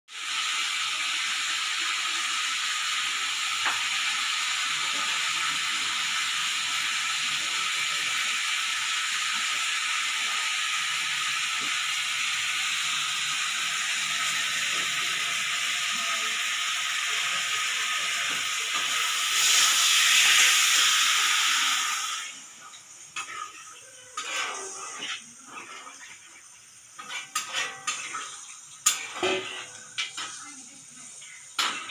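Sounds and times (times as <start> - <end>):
pressure cooker steam hissing: 0.1 - 31.9.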